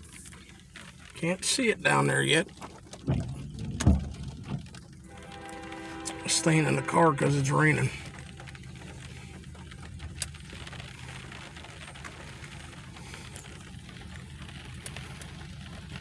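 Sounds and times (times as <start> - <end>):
low steady hum: 0.0 - 16.0
rain tapping on car roof: 0.0 - 16.0.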